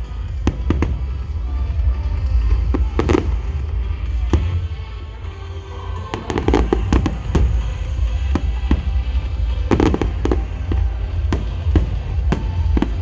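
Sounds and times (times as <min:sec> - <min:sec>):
fireworks bursting: 0:00.0 - 0:13.0
low rumble: 0:00.0 - 0:13.0
music over outdoor loudspeakers: 0:00.0 - 0:13.0.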